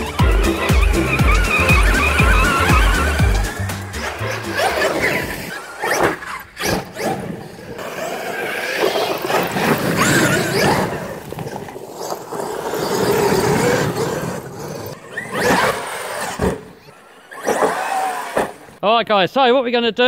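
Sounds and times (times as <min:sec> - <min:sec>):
toy truck motor whine: 0:00.0 - 0:18.8
tyres churning dirt: 0:00.0 - 0:18.8.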